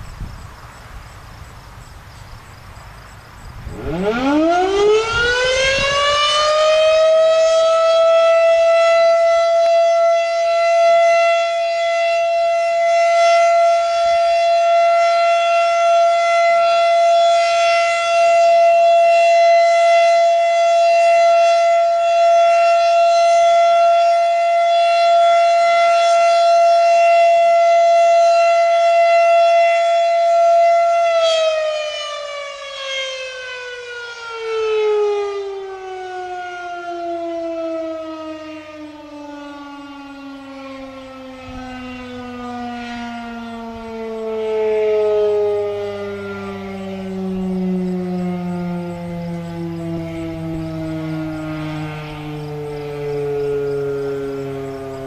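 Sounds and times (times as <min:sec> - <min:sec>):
electromechanical siren wailing: 0:03.4 - 0:55.0.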